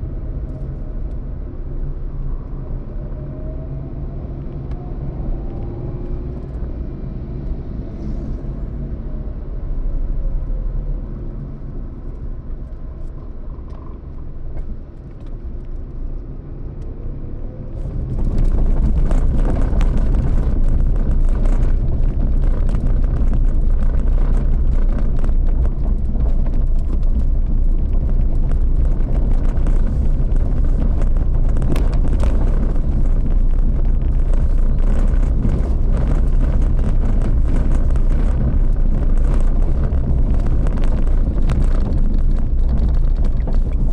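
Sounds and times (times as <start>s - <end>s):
vehicle engine rumble: 0.0s - 43.9s
wind and road noise: 0.0s - 43.9s
wind crackling on microphone: 0.0s - 43.9s.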